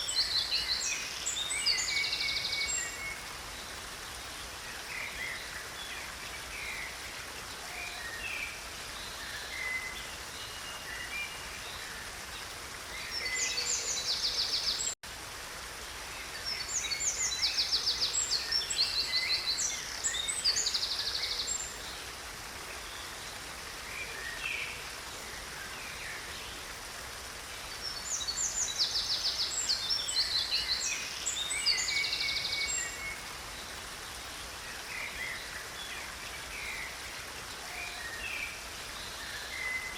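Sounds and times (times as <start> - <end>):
songbirds trilling and chirping: 0.0 - 39.9
stream running water: 0.0 - 39.9.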